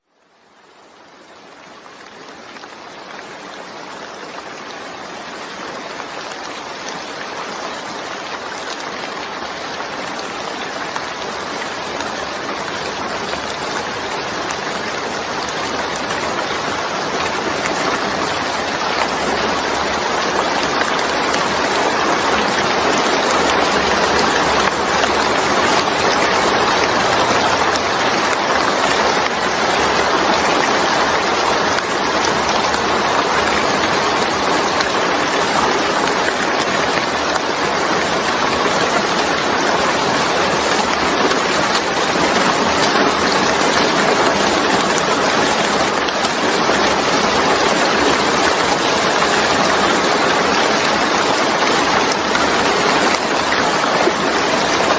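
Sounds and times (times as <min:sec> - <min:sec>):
steady rainfall hiss: 0:00.0 - 0:54.9.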